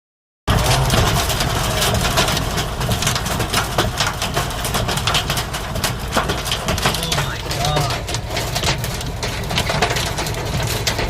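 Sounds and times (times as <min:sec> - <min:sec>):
hail clattering: 0:00.5 - 0:11.0.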